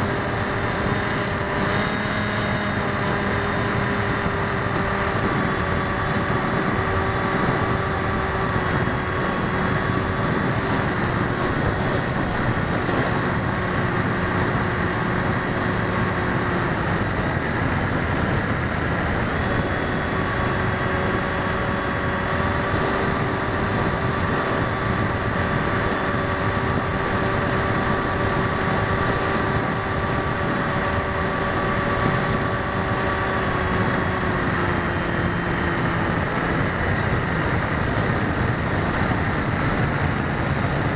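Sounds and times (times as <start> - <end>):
model motor buzzing whine: 0.0 - 40.9
wind noise: 0.0 - 40.9.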